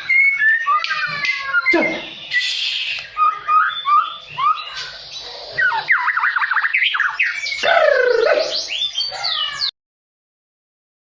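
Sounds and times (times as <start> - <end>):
bird singing: 0.0 - 9.8.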